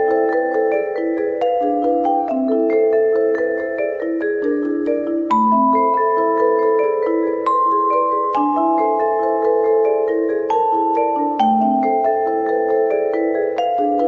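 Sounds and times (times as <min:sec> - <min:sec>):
mallet percussion melody: 0:00.0 - 0:14.0.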